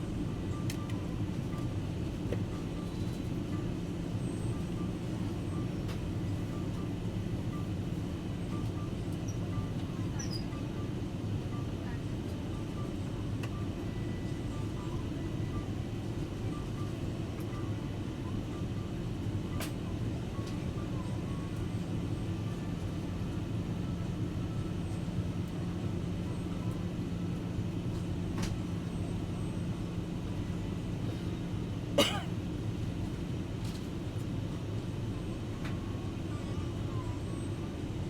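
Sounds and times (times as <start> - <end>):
jet engines and airflow rumble: 0.0 - 38.0.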